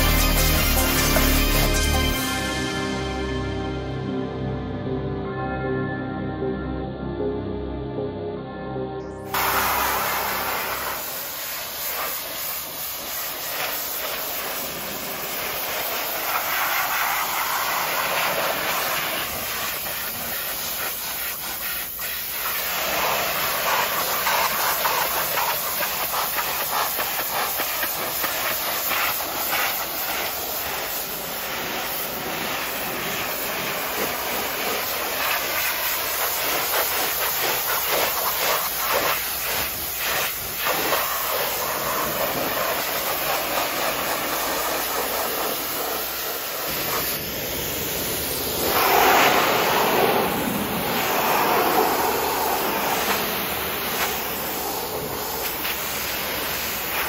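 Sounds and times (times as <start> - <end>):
pressure washer spraying water: 0.0 - 2.5, 9.3 - 57.0.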